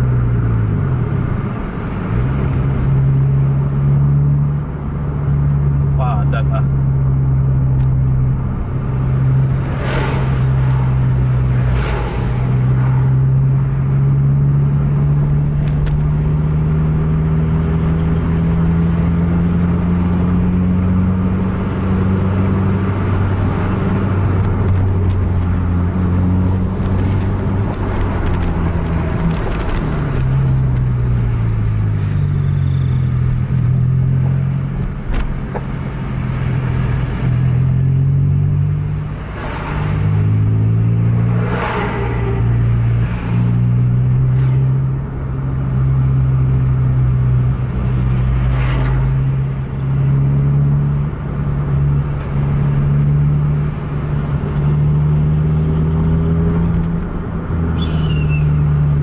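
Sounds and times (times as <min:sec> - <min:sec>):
car engine hum: 0:00.0 - 0:59.0
road noise: 0:00.0 - 0:59.0.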